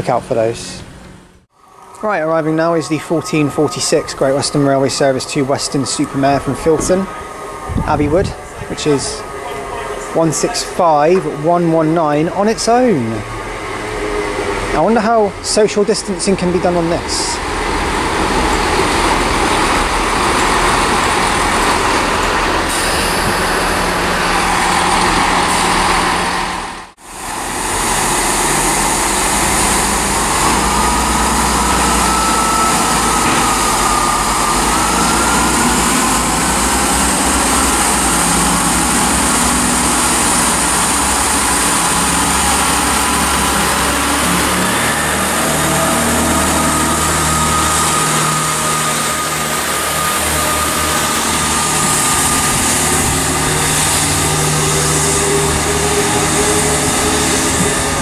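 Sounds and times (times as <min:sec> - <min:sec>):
diesel train engine running: 0:00.0 - 0:58.0.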